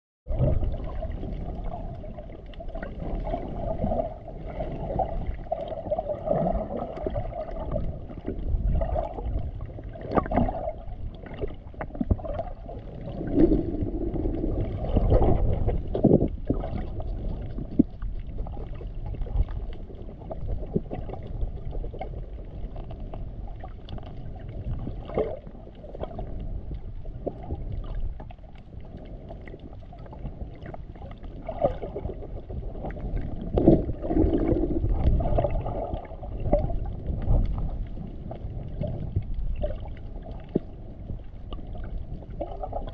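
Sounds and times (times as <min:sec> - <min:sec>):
underwater rumble of moving water: 0:00.2 - 0:42.9
small clicks and gurgles: 0:00.3 - 0:42.9.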